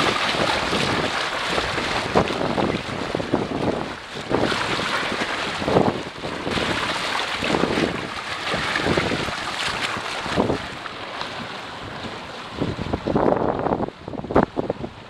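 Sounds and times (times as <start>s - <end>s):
water splashing along boat hull: 0.0s - 15.0s
wind buffeting microphone: 0.0s - 15.0s.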